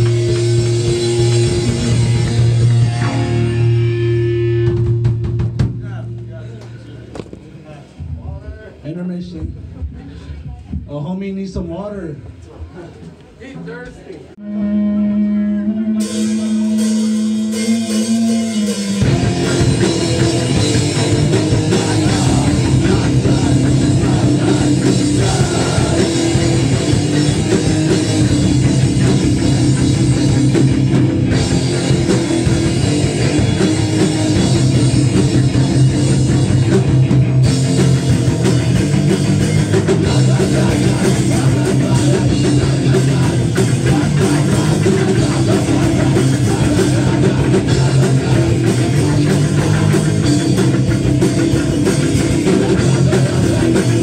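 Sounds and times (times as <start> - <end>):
punk band playing live: 0.0 - 8.8, 14.4 - 54.0.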